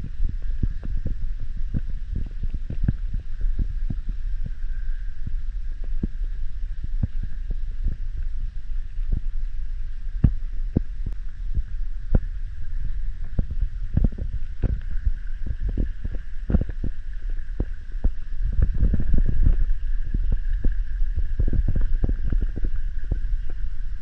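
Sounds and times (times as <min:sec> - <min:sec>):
faint steady hiss: 0:00.0 - 0:24.0
low rumble: 0:00.0 - 0:24.0.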